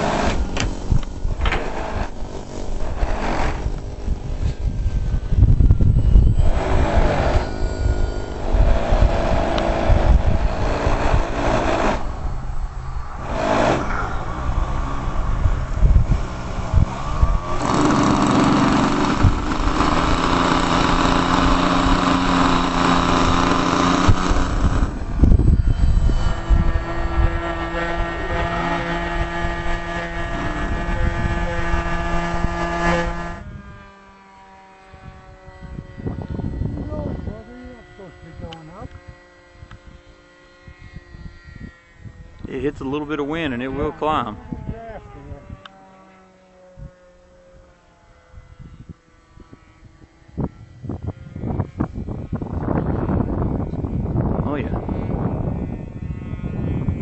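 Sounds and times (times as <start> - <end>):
model airplane motor humming: 0.0 - 57.0
wind buffeting microphone: 0.0 - 57.0.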